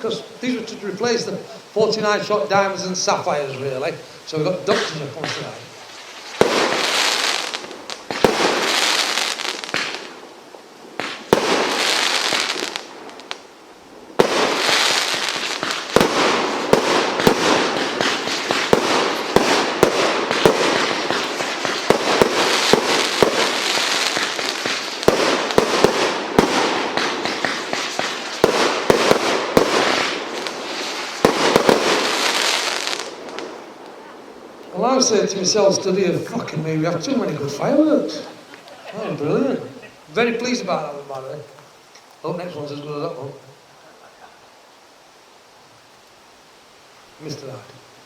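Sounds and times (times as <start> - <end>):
firework shots crackling: 0.0 - 38.8.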